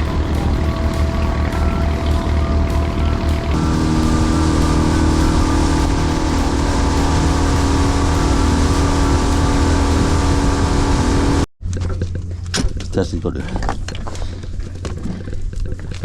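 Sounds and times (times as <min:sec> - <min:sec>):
boat engine droning: 0:00.0 - 0:15.6.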